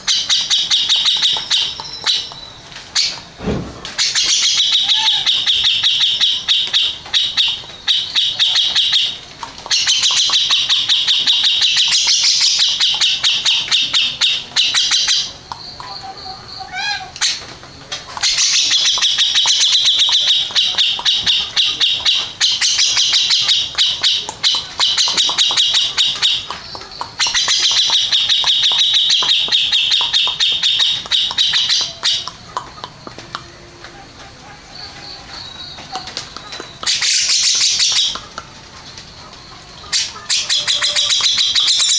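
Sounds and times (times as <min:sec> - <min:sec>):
bird singing chattering notes: 0:00.0 - 0:03.4, 0:04.0 - 0:41.9.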